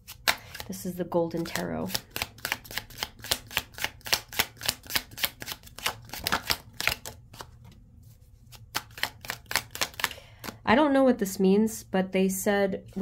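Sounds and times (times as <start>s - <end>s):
cards being shuffled: 0.0s - 10.6s.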